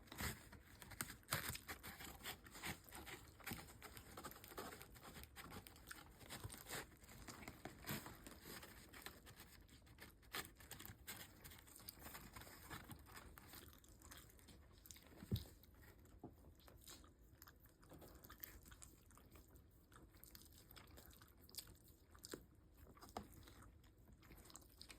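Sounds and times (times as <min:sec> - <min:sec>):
dog chewing and crunching food: 0:00.0 - 0:24.9.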